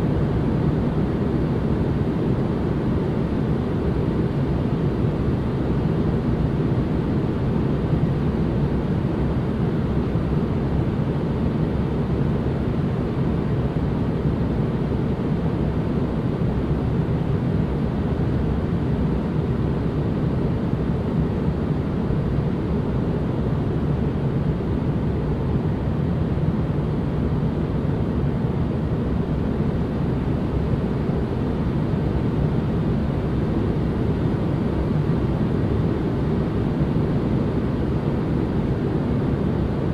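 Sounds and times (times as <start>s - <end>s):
white noise: 0.0s - 39.9s.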